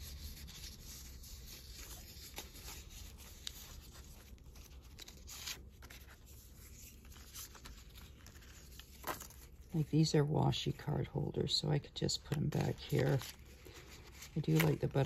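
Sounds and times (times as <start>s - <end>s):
paper rustling: 0.0s - 9.8s, 12.1s - 15.0s.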